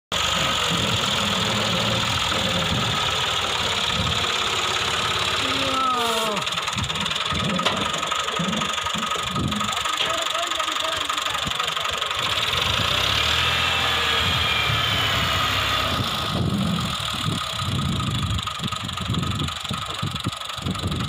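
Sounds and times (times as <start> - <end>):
tractor diesel engine straining: 0.1 - 21.0.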